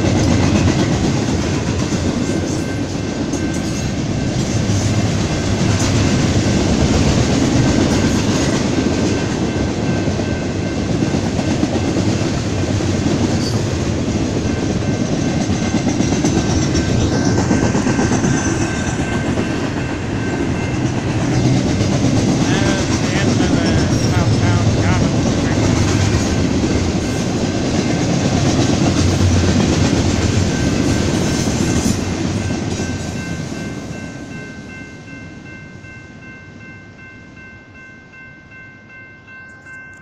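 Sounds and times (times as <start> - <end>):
train wheels rumbling on rails: 0.0 - 36.7.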